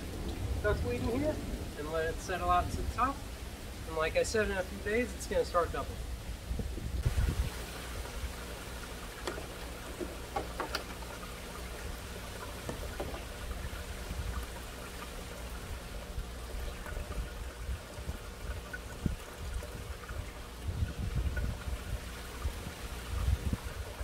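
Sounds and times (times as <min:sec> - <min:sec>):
filter pump humming: 0:00.0 - 0:24.0
water trickling: 0:00.0 - 0:24.0.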